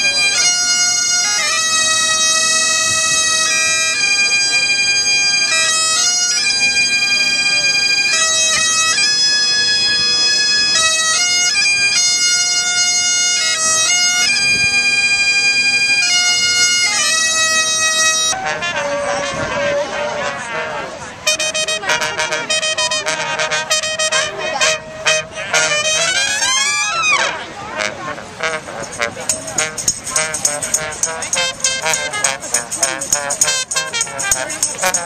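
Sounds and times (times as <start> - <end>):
bagpipes melody: 0.0 - 35.0.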